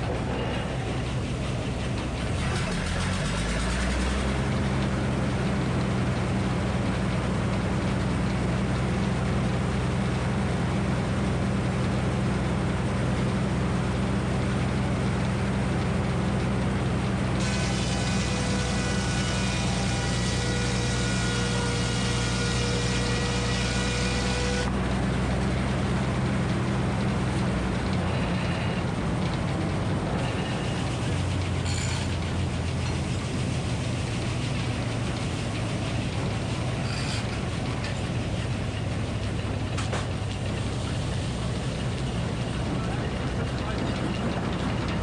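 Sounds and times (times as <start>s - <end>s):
engine powering sawmill: 0.0s - 45.0s.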